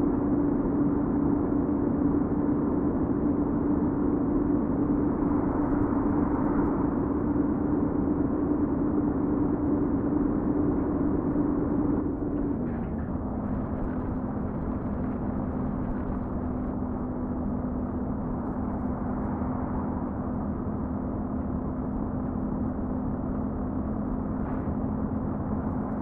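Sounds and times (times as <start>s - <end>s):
constant rushing noise: 0.0s - 26.0s
truck engine hum: 5.0s - 26.0s.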